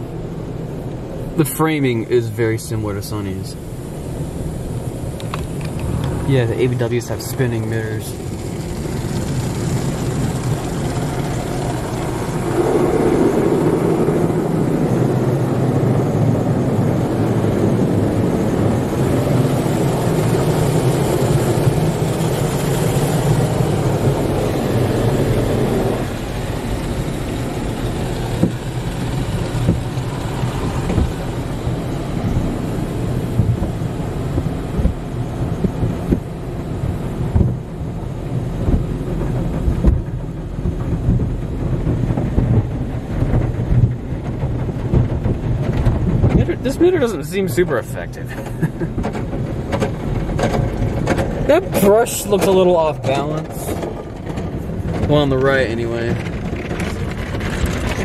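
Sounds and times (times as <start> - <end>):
low hum: 0.0 - 47.1
water spraying over car: 0.0 - 58.0
wash brushes slapping car: 5.0 - 14.7, 17.6 - 58.0.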